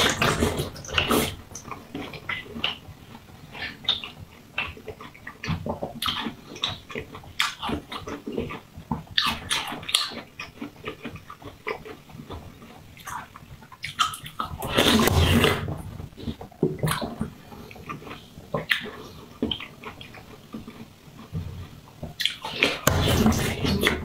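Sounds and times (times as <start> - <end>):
wet chewing and lip smacking: 0.0 - 24.0.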